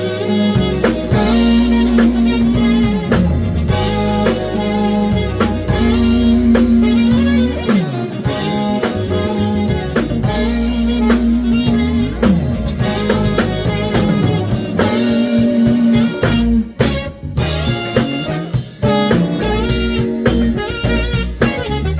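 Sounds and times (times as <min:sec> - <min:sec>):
drum kit: 0:00.0 - 0:21.9
electric bass: 0:00.0 - 0:21.9
electric guitar: 0:00.0 - 0:21.9
keyboards: 0:00.0 - 0:21.9.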